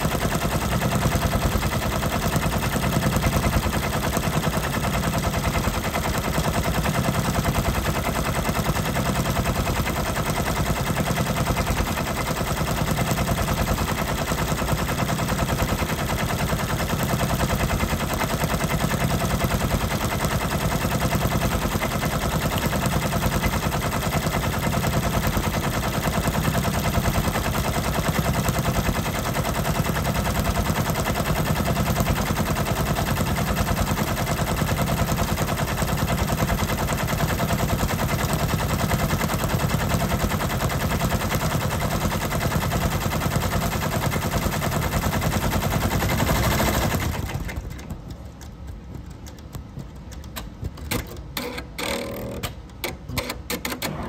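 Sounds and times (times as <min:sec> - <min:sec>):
embroidery machine needle clatter: 0:00.0 - 0:54.0.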